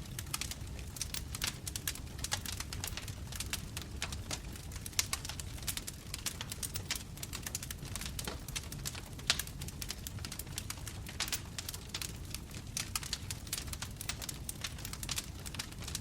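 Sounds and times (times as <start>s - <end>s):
bonfire crackling and popping: 0.0s - 16.0s
low rumble of flames: 0.0s - 16.0s.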